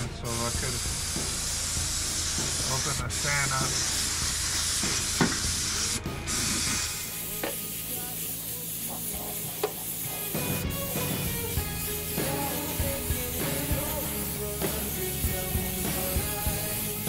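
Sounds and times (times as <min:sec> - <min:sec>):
paint spray gun hissing: 0:00.0 - 0:17.0.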